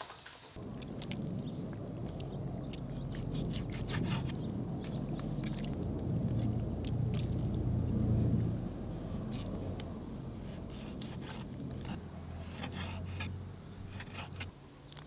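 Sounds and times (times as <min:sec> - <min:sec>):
steady low rumble: 0:00.6 - 0:14.5
wet scraping and squelching: 0:00.6 - 0:15.0.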